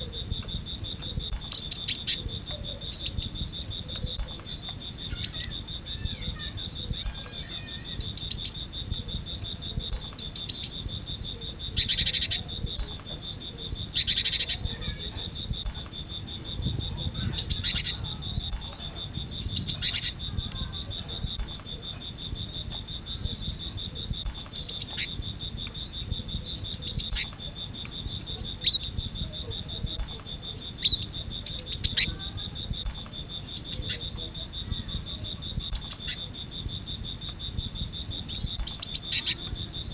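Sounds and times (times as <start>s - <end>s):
bird harsh rasping calls: 0.0s - 36.4s, 37.5s - 39.6s.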